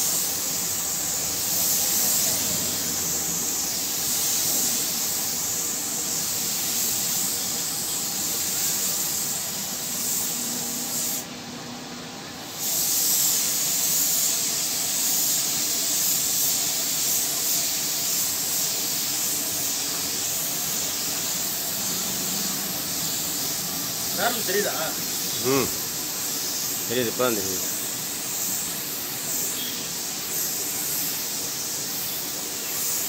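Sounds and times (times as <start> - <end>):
spray gun hissing: 0.0 - 33.0.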